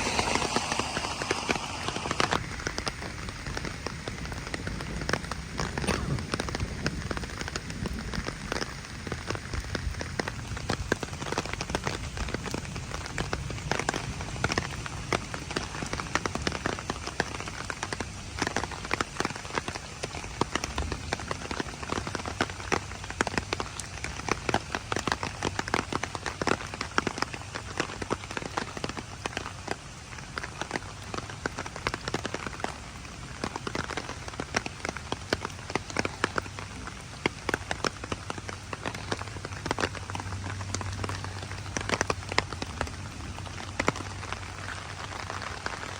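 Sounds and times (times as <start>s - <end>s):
heavy rain falling: 0.0s - 45.9s
raindrops striking close by: 0.0s - 45.9s.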